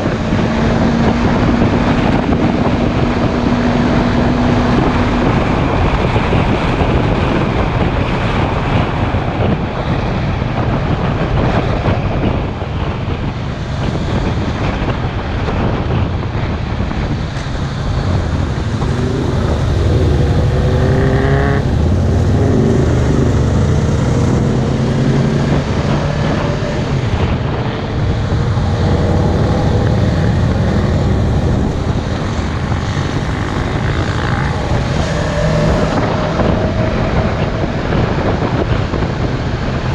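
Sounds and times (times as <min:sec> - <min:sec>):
motorcycle engine at speed: 0:00.0 - 0:39.9
wind rush on microphone: 0:00.0 - 0:39.9.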